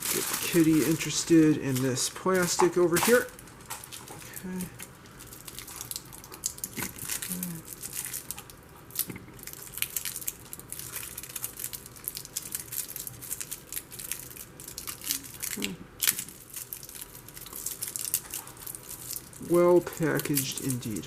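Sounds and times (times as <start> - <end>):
plastic packaging crinkling and tearing: 0.0 - 21.0.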